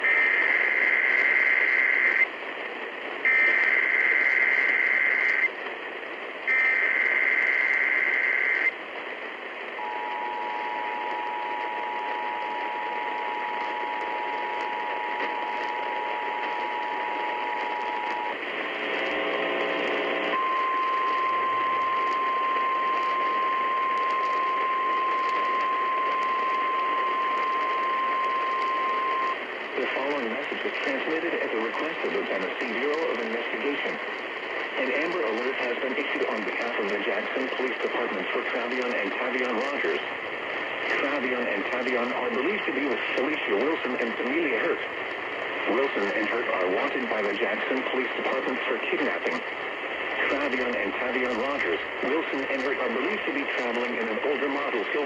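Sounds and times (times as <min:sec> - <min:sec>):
am radio static: 0:00.0 - 0:55.0.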